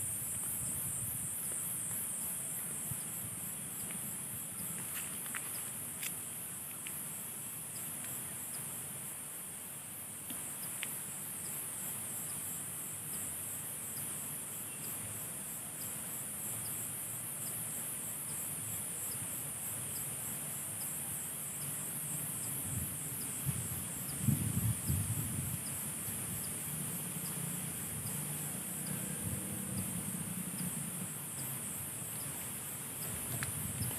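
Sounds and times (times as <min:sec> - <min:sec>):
insects buzzing and shrilling: 0:00.0 - 0:33.9.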